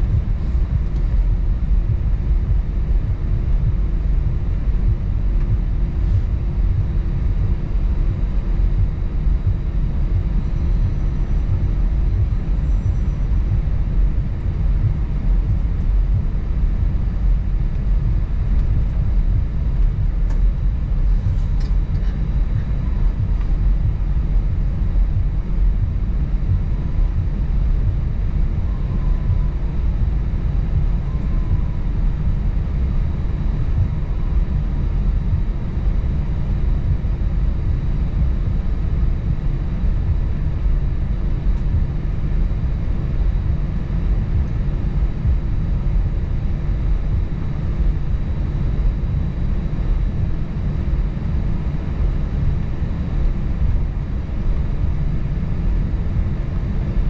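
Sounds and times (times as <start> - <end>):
faint steady hums: 0.0 - 57.0
jet engine cabin drone: 0.0 - 57.0.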